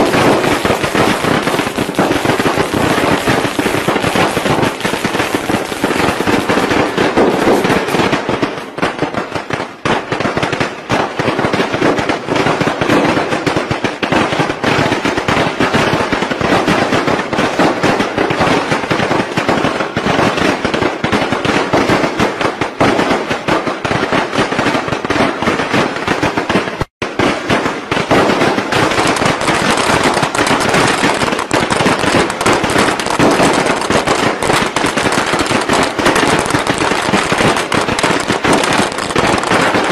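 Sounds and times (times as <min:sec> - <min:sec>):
firecrackers rattling: 0:00.0 - 0:39.9.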